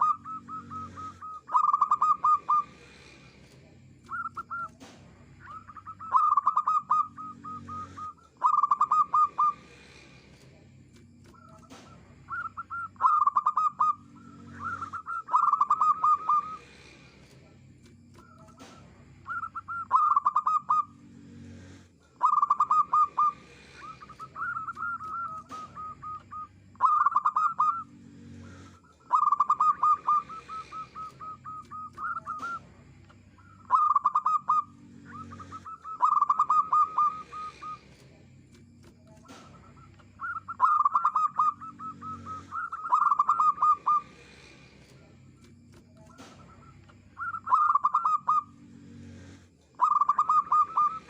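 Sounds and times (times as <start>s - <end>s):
dove cooing: 0.0s - 10.4s, 11.2s - 17.2s, 18.1s - 51.0s.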